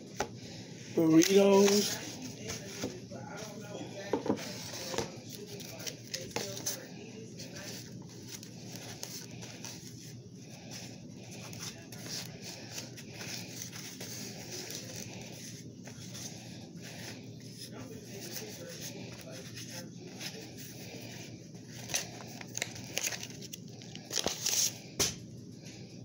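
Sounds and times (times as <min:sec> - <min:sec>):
food rustling and scraping on plate: 0:00.4 - 0:24.9.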